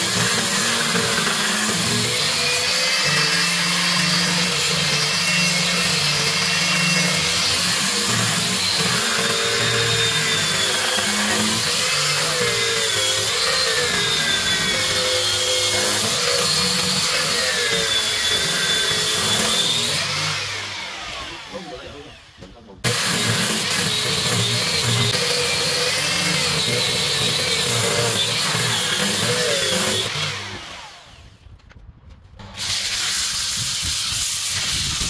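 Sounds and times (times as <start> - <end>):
electric sander on wood: 0.0 - 31.3, 32.4 - 35.0.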